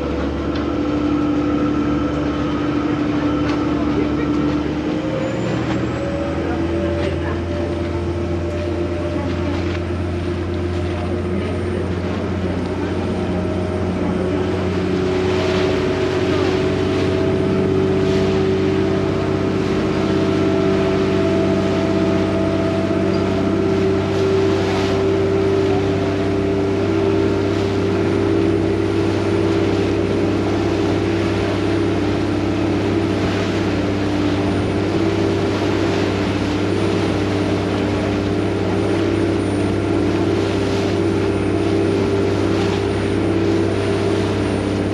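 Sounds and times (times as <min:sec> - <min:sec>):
boat diesel engine humming: 0:00.0 - 0:44.9.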